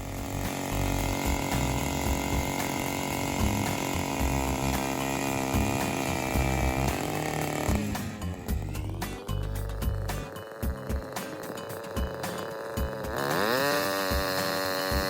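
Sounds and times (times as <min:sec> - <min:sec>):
ice auger engine drilling: 0:00.0 - 0:15.0.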